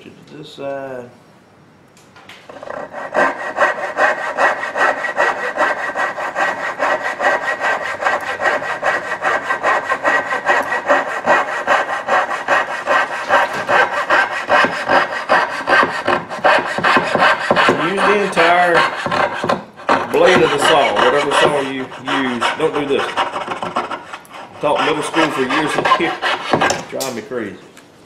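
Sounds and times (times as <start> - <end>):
saw cutting wood: 2.5 - 27.2.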